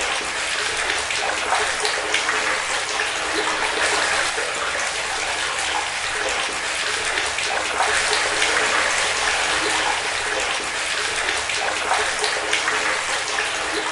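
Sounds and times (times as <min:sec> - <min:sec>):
water running and splashing: 0:00.0 - 0:13.9.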